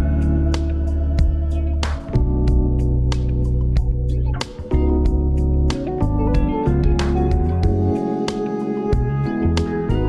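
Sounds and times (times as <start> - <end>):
sustained bass: 0.0 - 8.1, 9.0 - 10.0
plucked guitar notes: 0.0 - 10.0.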